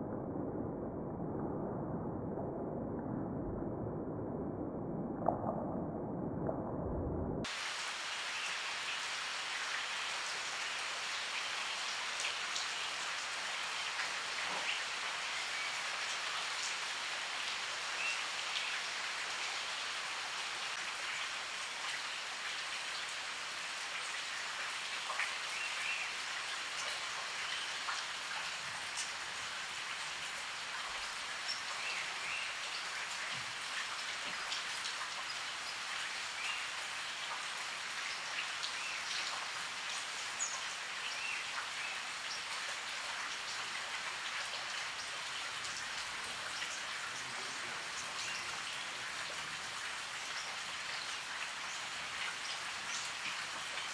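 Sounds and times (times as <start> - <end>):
steady rain: 7.4 - 53.9.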